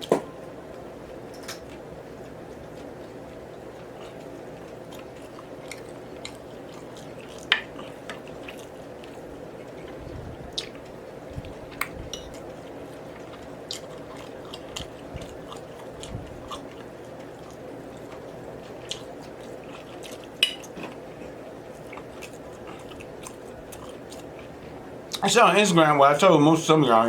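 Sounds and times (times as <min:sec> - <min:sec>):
low background hum: 0:00.0 - 0:27.0
chewing and biting: 0:00.7 - 0:25.2.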